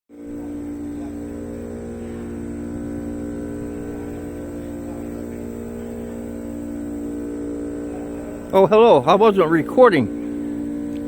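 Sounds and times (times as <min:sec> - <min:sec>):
hum of fixed tones: 0:00.1 - 0:11.0
low rumble: 0:00.2 - 0:11.0.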